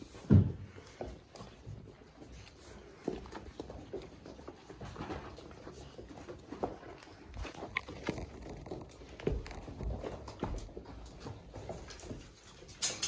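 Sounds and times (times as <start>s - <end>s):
puppies' paws pattering: 0.0s - 13.0s.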